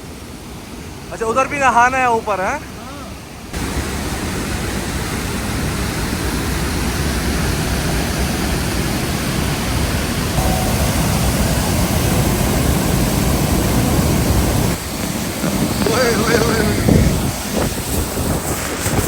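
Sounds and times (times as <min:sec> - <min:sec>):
rush of falling water: 0:00.0 - 0:19.0.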